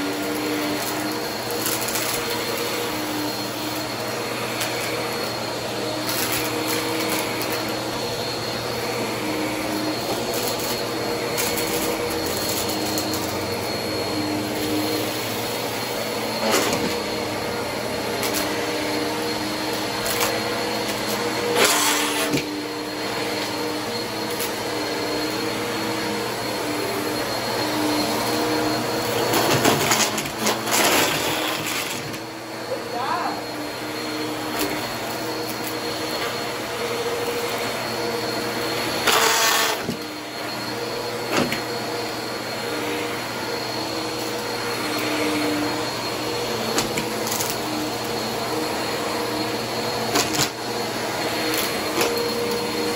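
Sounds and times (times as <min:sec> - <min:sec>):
vacuum cleaner running on carpet: 0:00.0 - 0:52.9.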